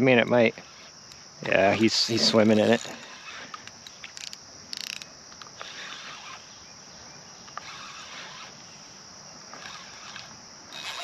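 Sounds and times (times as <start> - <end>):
insects calling: 0.0 - 11.0.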